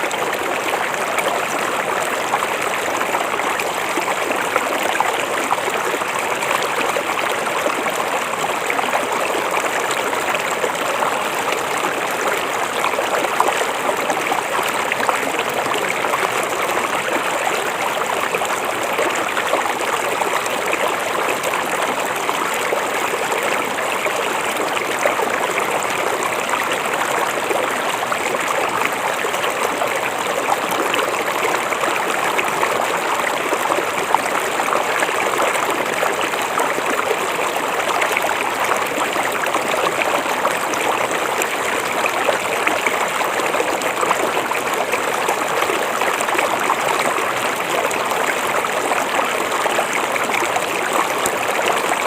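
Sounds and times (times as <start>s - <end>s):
river flowing over stones: 0.0s - 52.0s.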